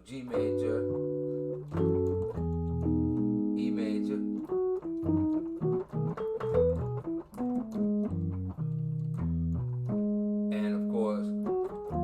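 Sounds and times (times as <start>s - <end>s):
organ-like keyboard playing: 0.1s - 12.0s.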